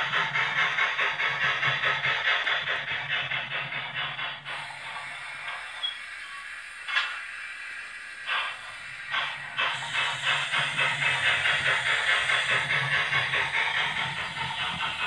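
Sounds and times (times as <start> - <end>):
steady steam hiss: 0.0 - 15.0
steam engine exhaust chuffs: 0.0 - 15.0.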